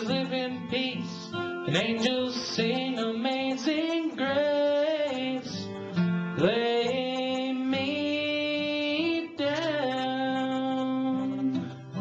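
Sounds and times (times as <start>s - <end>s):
man singing wordless melody: 0.0s - 12.0s.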